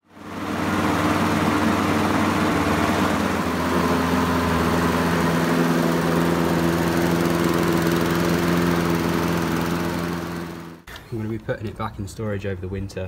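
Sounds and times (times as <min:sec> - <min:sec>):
lawnmower engine running: 0:00.0 - 0:10.9.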